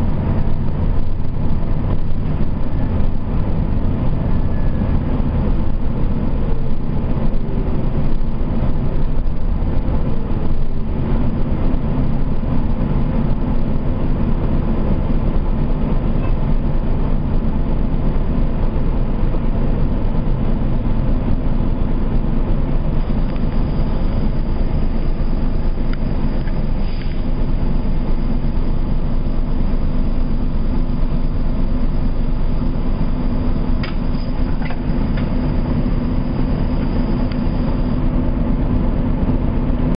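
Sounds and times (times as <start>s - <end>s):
bus engine droning: 0.0s - 40.0s.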